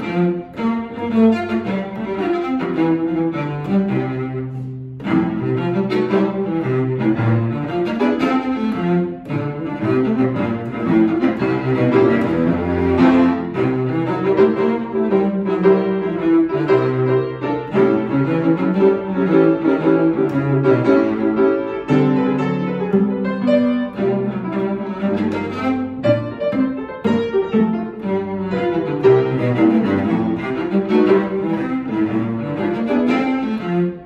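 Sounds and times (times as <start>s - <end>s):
cello bowed melody: 0.0s - 34.0s
flowing piano accompaniment: 0.0s - 34.0s.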